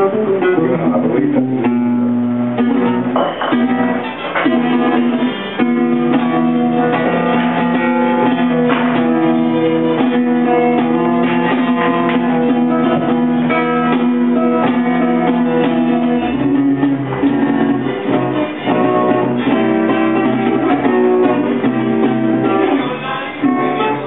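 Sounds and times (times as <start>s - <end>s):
classical guitar fingerstyle: 0.0s - 24.0s.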